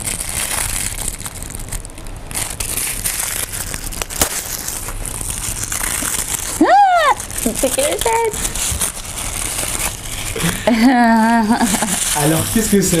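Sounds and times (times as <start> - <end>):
tissue paper crinkling and tearing: 0.0 - 13.0.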